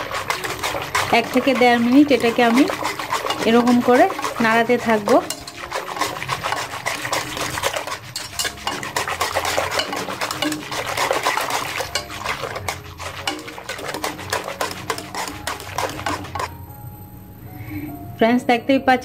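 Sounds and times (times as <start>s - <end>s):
whisk scraping a pot: 0.0s - 16.5s.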